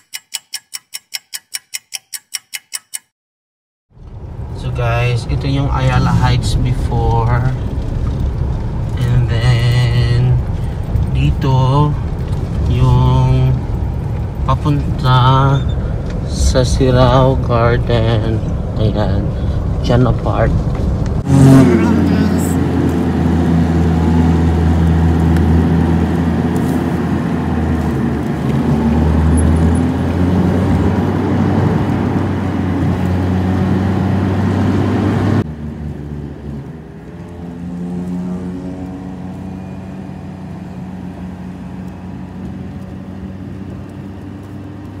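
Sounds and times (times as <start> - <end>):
car engine and road noise: 3.9 - 45.0.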